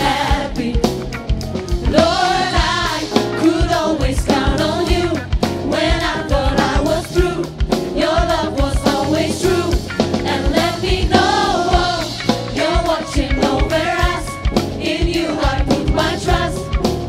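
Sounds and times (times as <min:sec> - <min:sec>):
band accompaniment: 0:00.0 - 0:17.0
gospel choir singing: 0:00.0 - 0:17.0
steady drum beat: 0:00.0 - 0:17.0.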